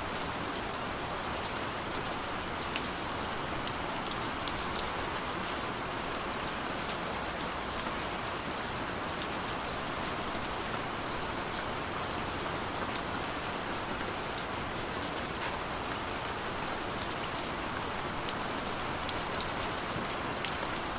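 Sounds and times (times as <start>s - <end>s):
heavy rain: 0.0s - 20.9s
raindrops ticking on a surface: 0.1s - 20.9s.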